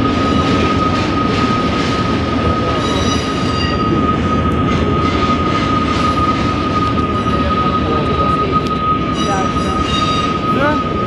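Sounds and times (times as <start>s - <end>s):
freight train rumble: 0.0s - 11.0s
high wheel squeal: 0.0s - 11.0s.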